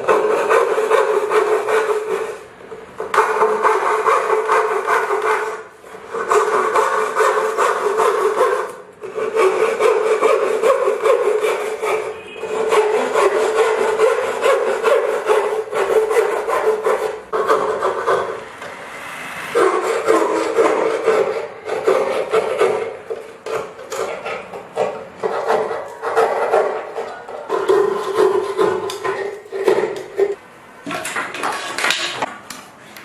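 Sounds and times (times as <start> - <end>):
hand tool scraping wood: 0.0 - 18.4, 19.5 - 30.4.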